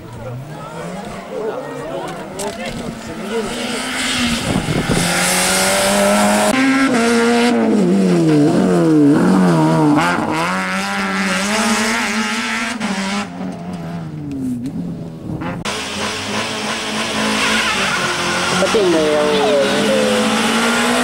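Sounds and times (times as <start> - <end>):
rally car engine at high revs: 2.7 - 21.0.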